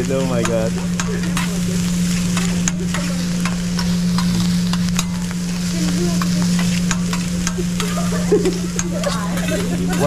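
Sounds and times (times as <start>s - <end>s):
food sizzling on a griddle: 0.0s - 10.0s
steady low hum: 0.0s - 10.0s
metal spatulas scraping steel: 0.4s - 10.0s.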